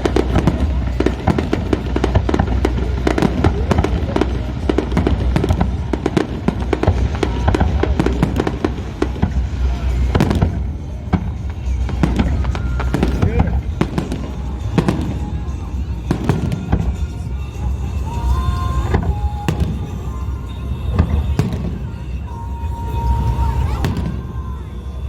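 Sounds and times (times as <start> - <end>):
fireworks bangs and crackles: 0.0 - 25.0
low rumble: 0.0 - 25.0.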